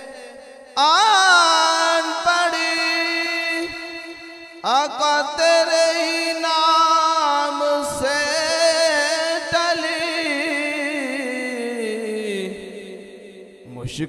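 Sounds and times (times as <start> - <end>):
man singing without instruments: 0.0 - 12.7.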